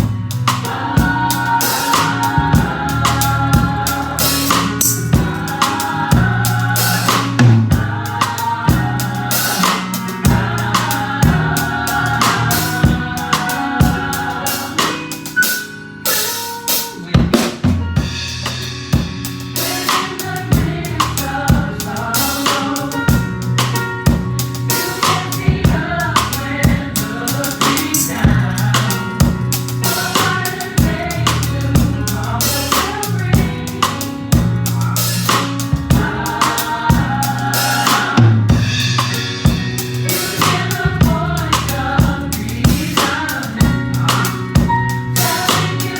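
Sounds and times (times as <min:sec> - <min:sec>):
drum kit groove: 0:00.0 - 0:45.9
upbeat gospel song: 0:00.0 - 0:45.9.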